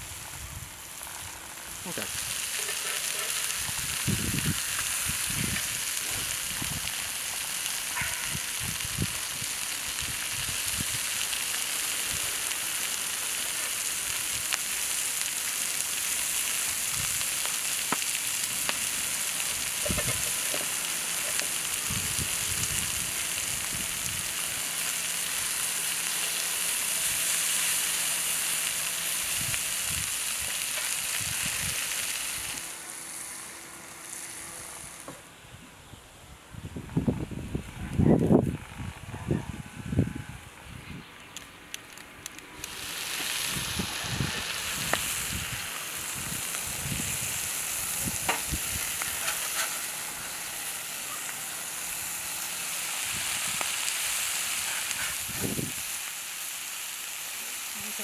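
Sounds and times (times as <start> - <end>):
fish and peppers sizzling on griddle: 0.0 - 35.3, 41.0 - 58.0.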